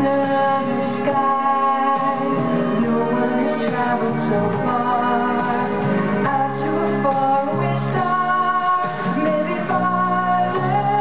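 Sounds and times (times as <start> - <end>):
held instrumental chords: 0.0 - 11.0
person singing: 0.0 - 11.0.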